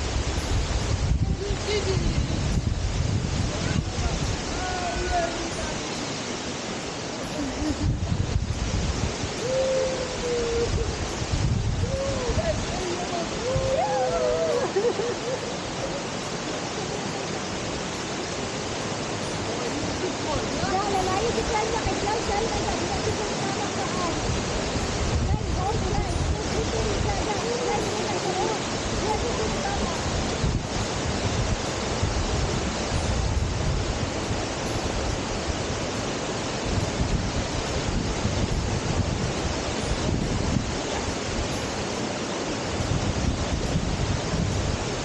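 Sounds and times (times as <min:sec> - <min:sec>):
waterfall rushing: 0:00.0 - 0:45.0
wind buffeting microphone: 0:00.0 - 0:45.0.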